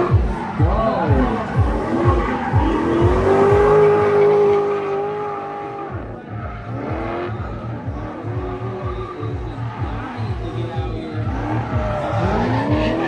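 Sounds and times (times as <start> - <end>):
car engine revving hard: 0.0 - 13.0
tyre noise: 0.0 - 13.0.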